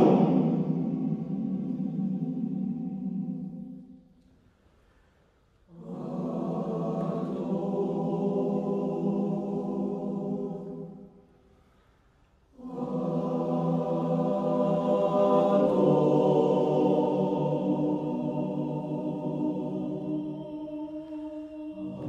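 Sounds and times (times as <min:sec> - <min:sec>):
men's choir singing held chords: 0:00.0 - 0:03.9, 0:05.7 - 0:11.2, 0:12.6 - 0:22.0.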